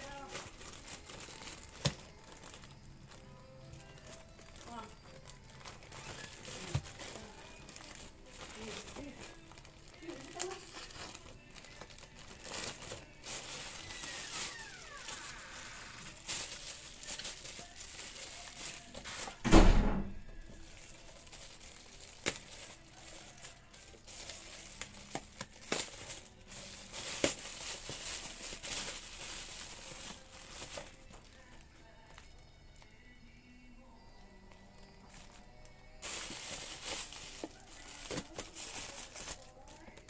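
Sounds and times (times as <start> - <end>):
plastic bag crinkling: 0.0 - 19.5, 20.3 - 40.0.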